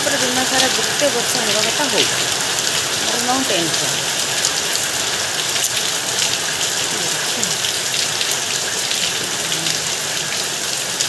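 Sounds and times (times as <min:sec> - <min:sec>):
heavy rain hissing: 0:00.0 - 0:11.0
raindrop ticks: 0:00.0 - 0:11.0.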